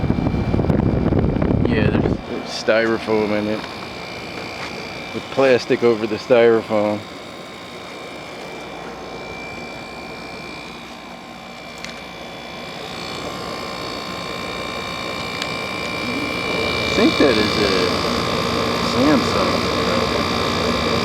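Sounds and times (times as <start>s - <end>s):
window air conditioner humming: 0.0s - 21.0s.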